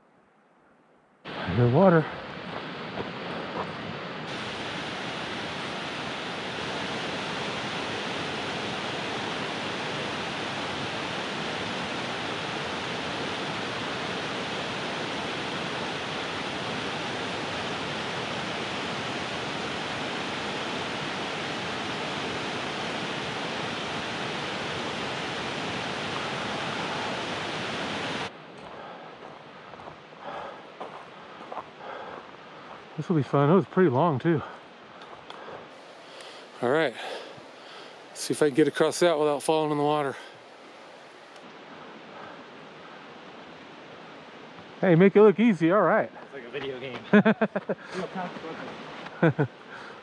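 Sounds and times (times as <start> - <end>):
creek rushing over boulders: 1.3 - 47.2, 47.8 - 50.0.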